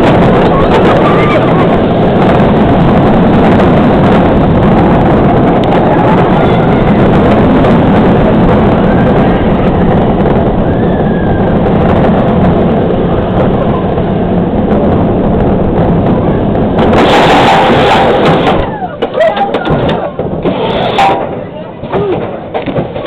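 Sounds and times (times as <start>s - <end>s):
roller coaster train rushing: 0.0s - 23.0s
wind buffeting microphone: 0.0s - 23.0s.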